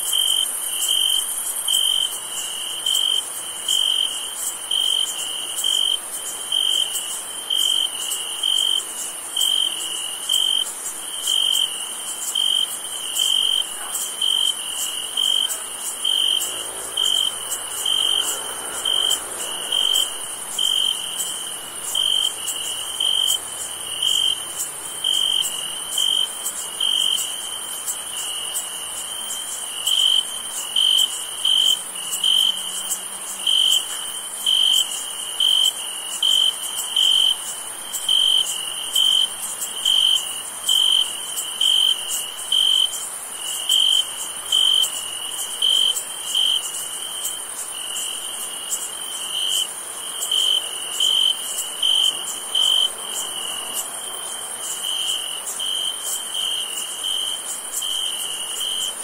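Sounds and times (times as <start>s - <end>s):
cricket chirping: 0.0s - 59.0s
insects trilling: 0.0s - 59.0s.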